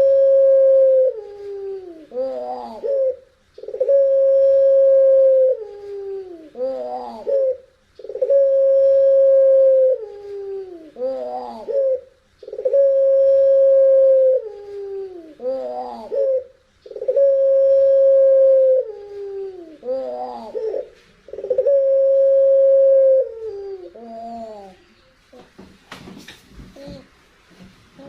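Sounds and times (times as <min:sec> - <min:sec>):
dove cooing: 0:00.0 - 0:24.8.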